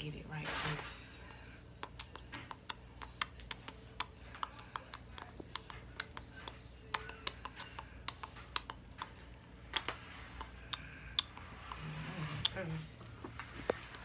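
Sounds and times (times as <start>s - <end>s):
gelled hair clicking and crackling: 1.7s - 14.0s.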